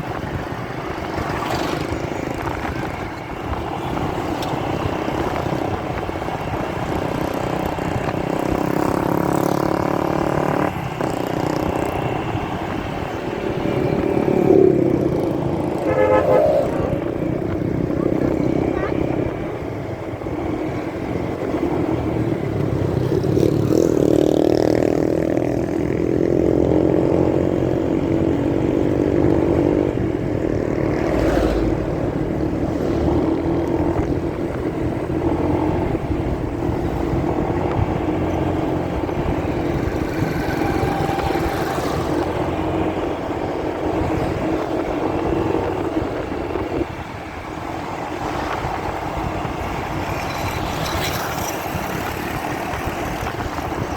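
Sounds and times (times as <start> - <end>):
muffled motorcycle engine: 0.0 - 53.9.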